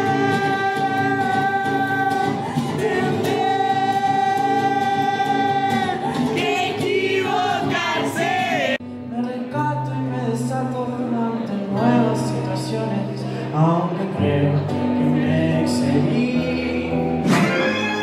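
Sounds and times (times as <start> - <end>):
singing with accompaniment: 0.0 - 18.0.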